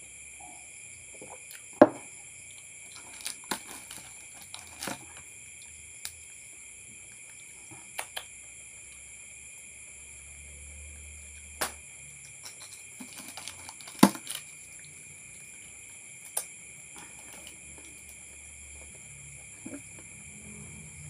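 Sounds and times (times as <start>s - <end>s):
night insects chirring: 0.0s - 21.0s.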